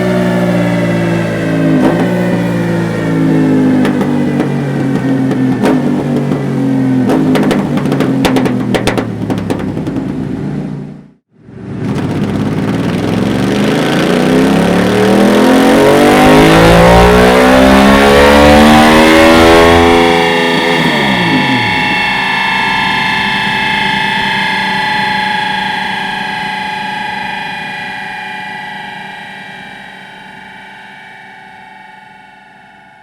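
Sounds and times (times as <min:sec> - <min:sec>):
exhaust crackles: 0:00.0 - 0:26.8
motorcycle engine under load: 0:00.0 - 0:33.0.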